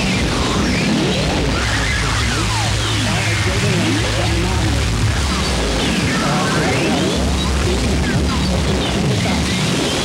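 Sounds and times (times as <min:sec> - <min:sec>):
harsh noise with sweeping pitches: 0:00.0 - 0:10.0
low electronic drone: 0:00.0 - 0:10.0.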